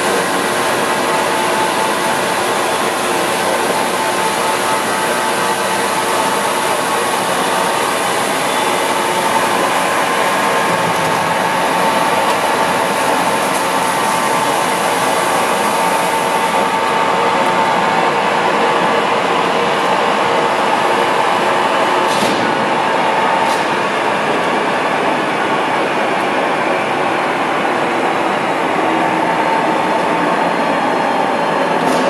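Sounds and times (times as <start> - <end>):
grinder machine hum and whine: 0.0 - 32.0.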